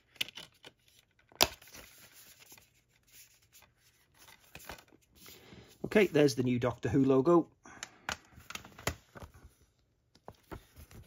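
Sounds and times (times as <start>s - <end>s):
paper and card rustling: 0.0s - 6.3s, 8.3s - 11.0s.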